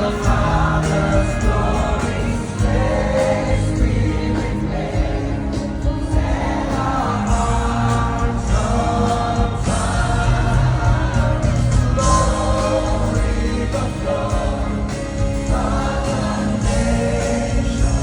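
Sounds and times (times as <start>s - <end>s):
band with pulsing bass: 0.0s - 18.0s
choir singing held notes: 0.0s - 18.0s.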